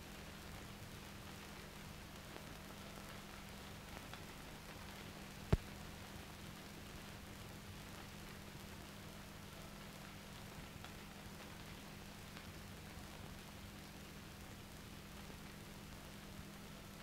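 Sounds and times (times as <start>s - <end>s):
steady tape hiss: 0.0s - 17.0s.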